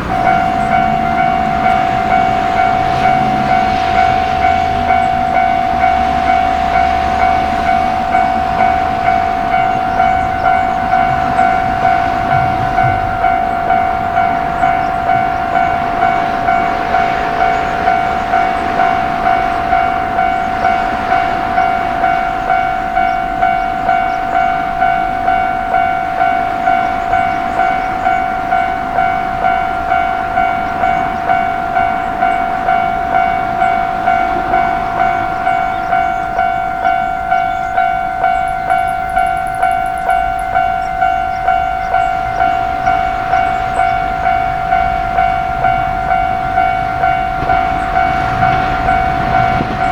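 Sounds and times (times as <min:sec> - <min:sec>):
level crossing alarm ringing: 0:00.0 - 0:49.9
train running past: 0:00.0 - 0:49.9.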